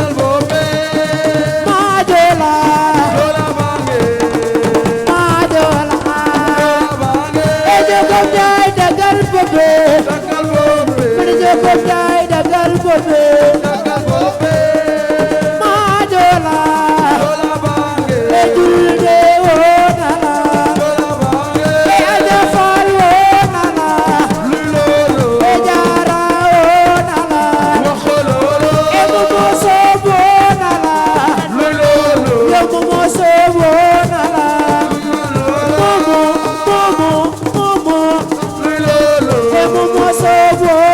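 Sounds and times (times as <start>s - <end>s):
hand drum percussion: 0.0s - 40.9s
person singing: 0.0s - 40.9s.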